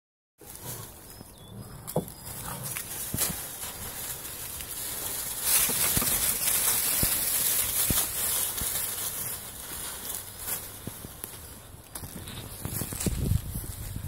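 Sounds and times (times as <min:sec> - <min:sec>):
dry leaves rustling and crunching: 0:00.4 - 0:14.0.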